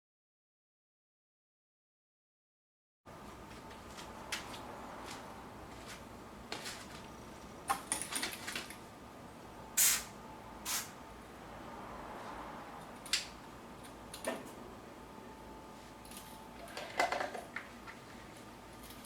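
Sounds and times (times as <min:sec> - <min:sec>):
faint steady hum: 0:03.1 - 0:19.0.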